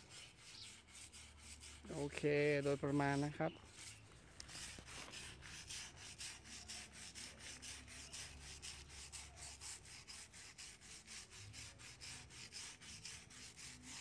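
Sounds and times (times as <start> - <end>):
brush scrubbing bark: 0.0 - 14.0.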